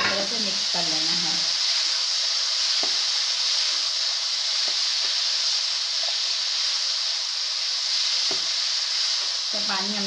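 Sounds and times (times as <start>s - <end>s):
frying hiss: 0.0s - 10.0s.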